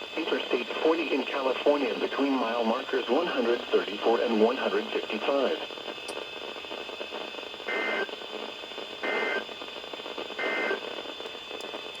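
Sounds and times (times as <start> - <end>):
radio hiss: 0.0 - 11.9.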